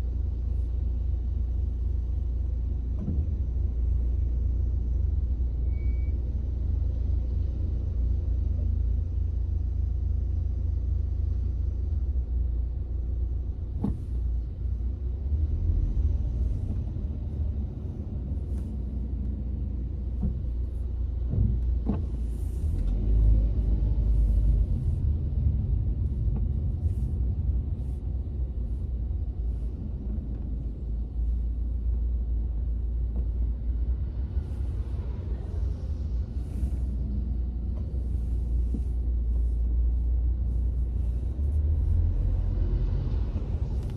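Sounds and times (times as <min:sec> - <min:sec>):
car cabin road rumble: 0:00.0 - 0:43.9.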